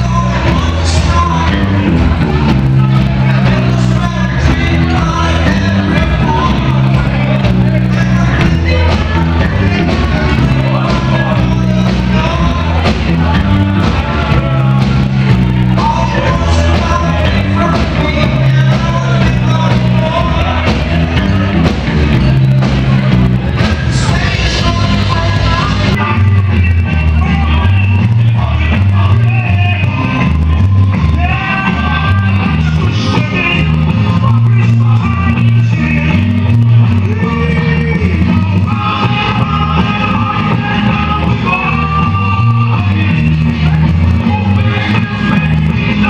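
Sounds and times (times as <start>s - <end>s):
loud rock music with singing: 0.0s - 46.0s.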